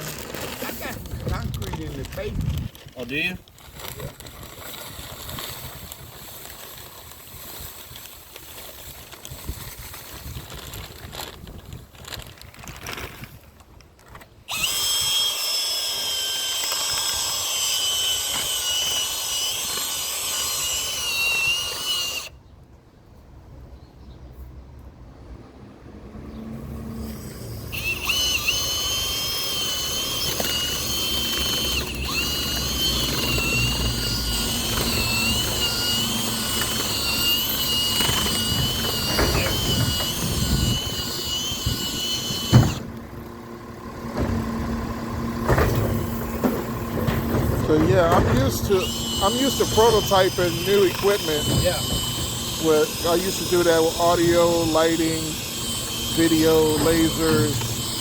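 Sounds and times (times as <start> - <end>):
electric drill mixing whine: 0.0 - 11.4, 14.4 - 22.4, 26.8 - 58.0.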